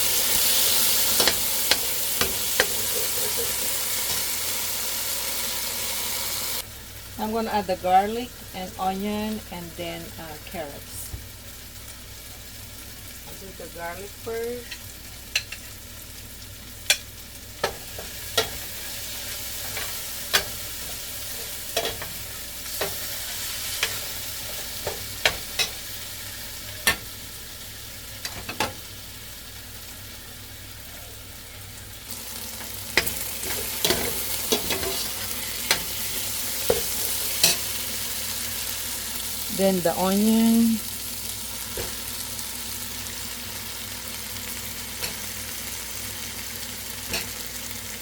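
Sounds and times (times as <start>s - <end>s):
meat sizzling in a pan: 0.0s - 7.2s, 10.6s - 48.0s.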